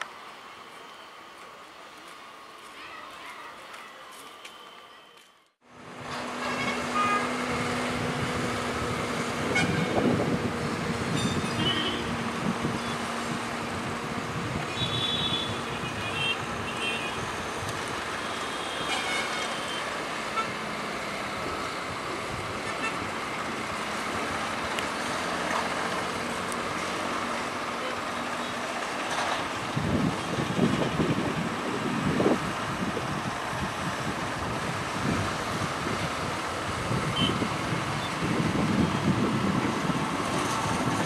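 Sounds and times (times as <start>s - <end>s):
train rumbling on track: 5.7s - 14.8s, 15.4s - 41.0s.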